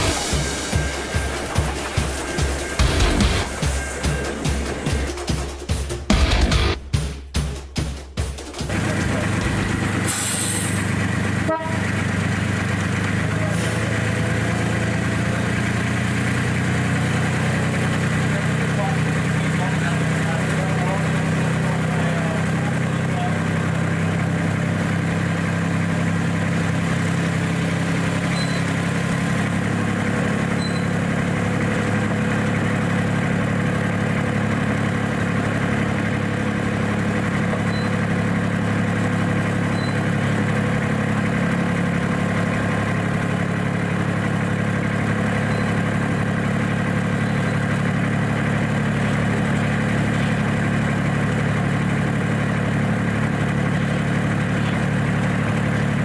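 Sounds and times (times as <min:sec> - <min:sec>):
miniature locomotive engine running: 0:08.7 - 0:10.2, 0:10.8 - 0:56.0.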